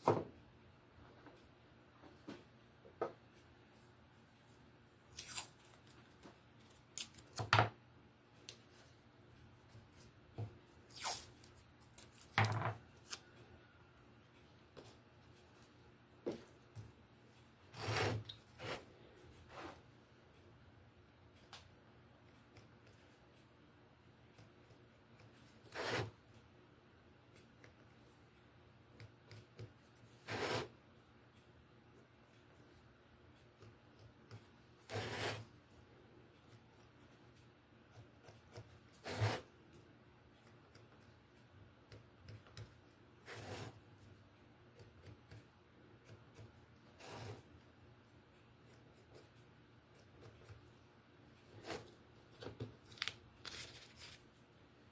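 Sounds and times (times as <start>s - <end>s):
faint steady background: 0.0s - 54.9s.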